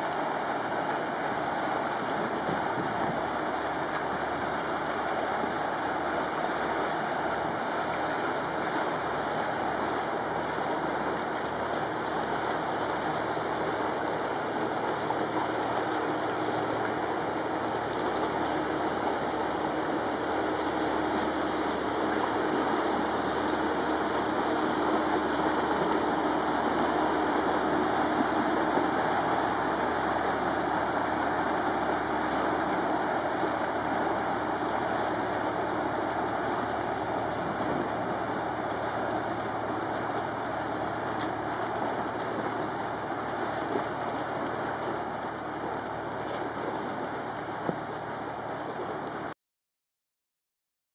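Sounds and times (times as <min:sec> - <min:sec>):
boat engine drone: 0:00.0 - 0:49.3
water rushing and churning: 0:00.0 - 0:49.3.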